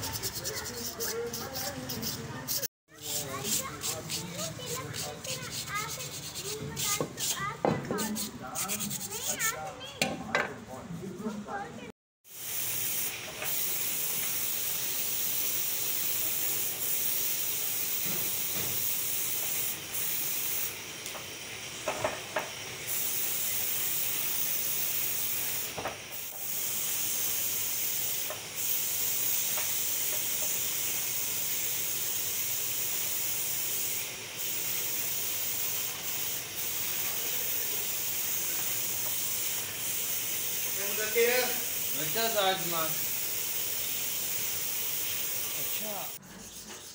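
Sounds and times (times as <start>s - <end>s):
paint spray gun hissing: 0.0s - 9.4s, 12.3s - 46.2s.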